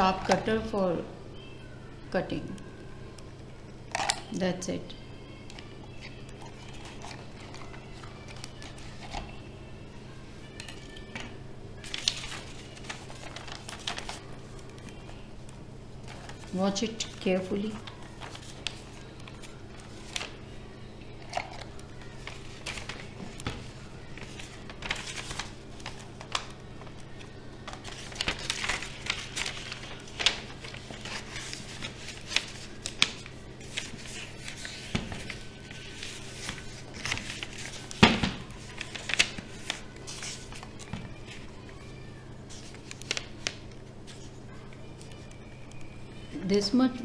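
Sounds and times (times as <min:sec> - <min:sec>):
paper rustling and crinkling: 0:05.5 - 0:09.5, 0:10.4 - 0:15.3, 0:16.0 - 0:20.5, 0:21.1 - 0:45.8.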